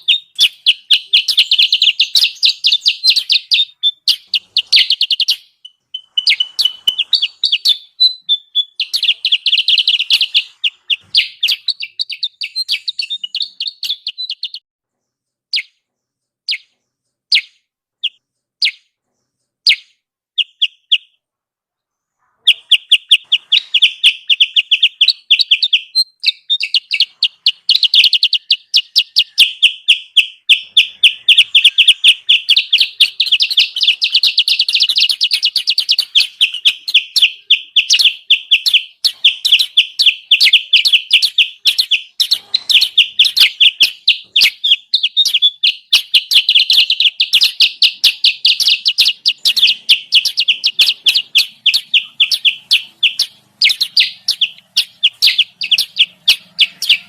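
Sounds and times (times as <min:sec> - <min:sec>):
bird chirping and twittering: 0:00.0 - 0:21.2, 0:21.9 - 0:57.0.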